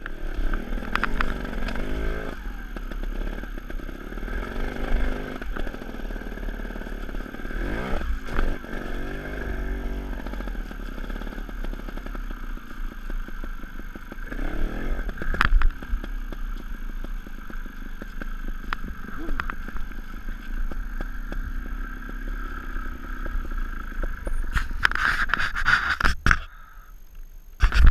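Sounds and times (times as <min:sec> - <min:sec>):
motorcycle engine revving: 0:00.0 - 0:26.5.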